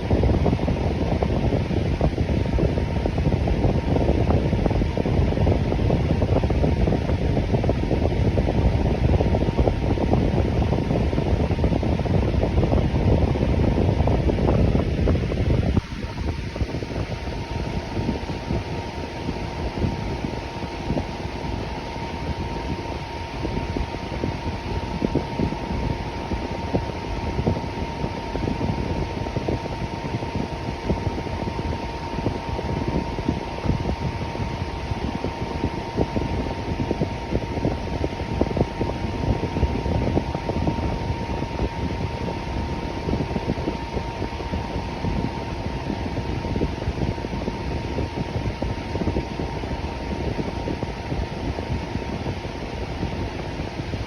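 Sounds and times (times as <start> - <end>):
electric fan running: 0.0 - 54.0
faint steady whine: 0.0 - 54.0.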